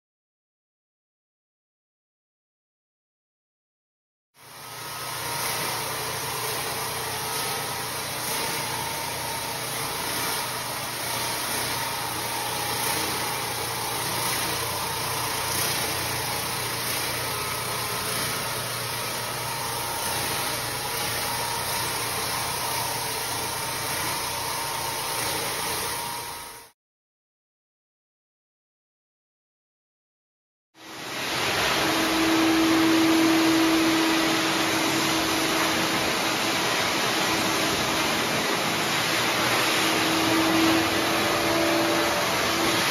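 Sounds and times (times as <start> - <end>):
floor scrubber motor hum: 4.4 - 26.7, 30.8 - 42.9.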